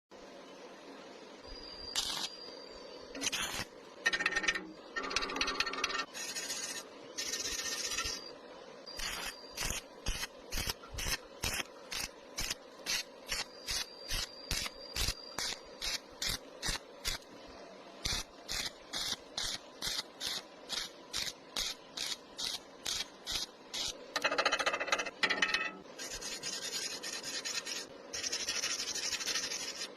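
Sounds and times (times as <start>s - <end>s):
welding arc bursts: 1.9s - 2.3s, 3.2s - 8.2s, 9.0s - 17.2s, 18.0s - 25.1s, 26.0s - 29.9s.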